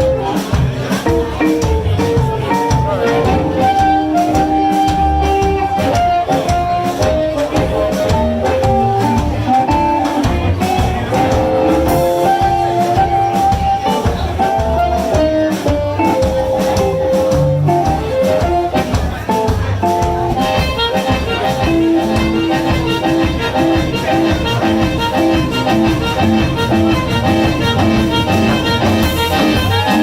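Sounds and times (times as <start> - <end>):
blues band playing: 0.0 - 30.0
guitar lead with bending notes: 0.0 - 30.0.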